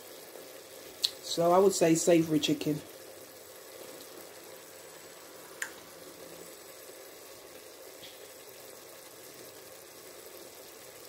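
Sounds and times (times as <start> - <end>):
pot faint bubbling: 0.0 - 11.0.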